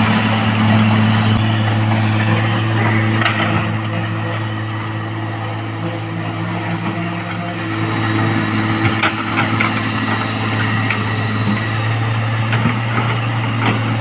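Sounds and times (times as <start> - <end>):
diesel machinery engine running: 0.0 - 14.0
rushing noise: 0.0 - 14.0.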